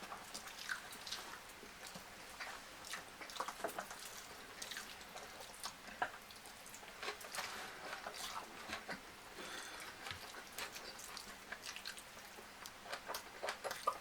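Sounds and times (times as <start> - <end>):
wet chewing and smacking: 0.0 - 9.1, 9.7 - 14.0.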